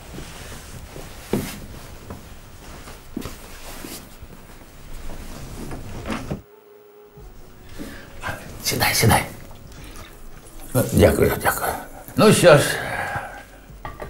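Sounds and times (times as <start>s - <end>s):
shuffling footsteps: 0.0s - 6.5s, 7.1s - 14.0s
jackets rustling: 0.0s - 13.8s.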